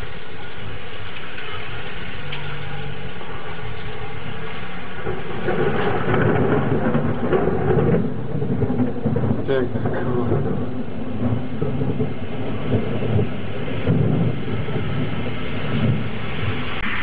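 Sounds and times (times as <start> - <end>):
steady rain: 0.0 - 17.0
thunder rolling: 0.0 - 17.0.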